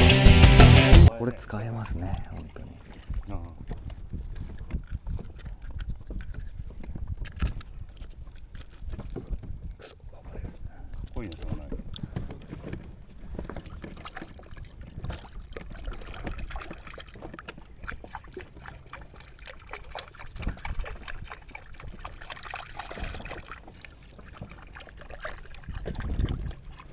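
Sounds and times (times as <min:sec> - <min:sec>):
water lapping against boat hull: 0:01.1 - 0:26.9.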